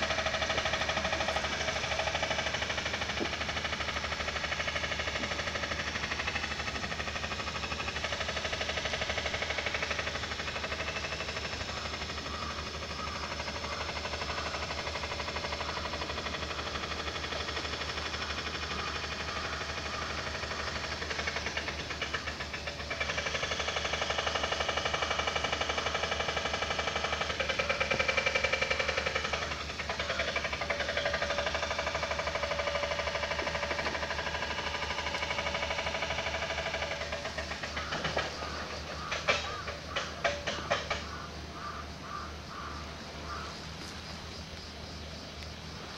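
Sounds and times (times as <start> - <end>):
engine running with knocking pulse: 0.0 - 45.9.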